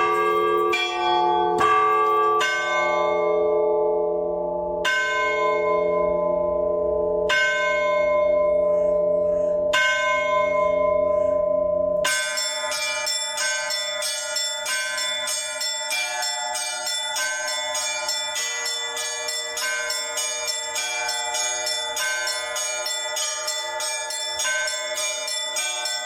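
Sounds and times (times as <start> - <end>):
small bells pealing: 0.0 - 3.8, 7.3 - 26.0
large bell struck: 0.0 - 26.0.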